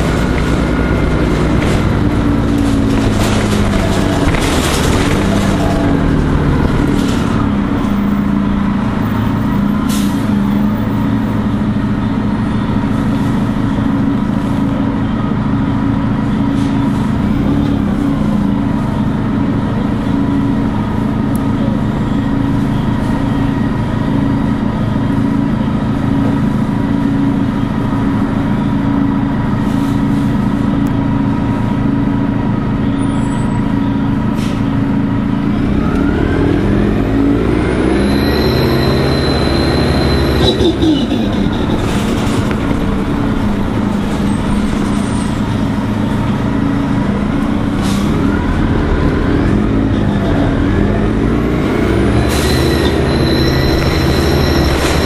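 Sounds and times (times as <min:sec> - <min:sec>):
bus engine running: 0:00.0 - 0:55.0
high engine whine: 0:00.0 - 0:55.0.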